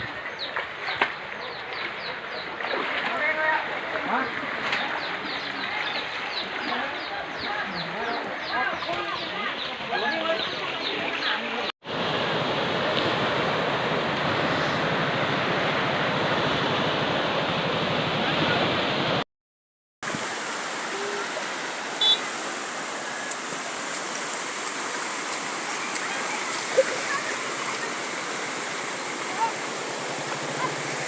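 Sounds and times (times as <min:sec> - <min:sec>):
rushing floodwater: 0:00.0 - 0:19.2, 0:20.0 - 0:31.0.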